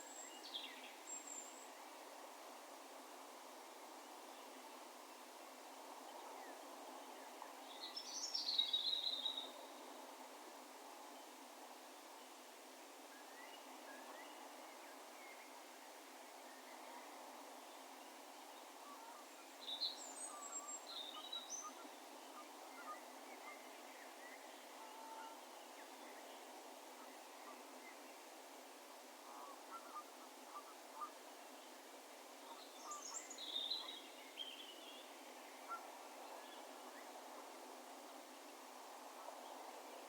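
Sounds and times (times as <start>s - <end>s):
low ambient hiss: 0.0s - 40.0s.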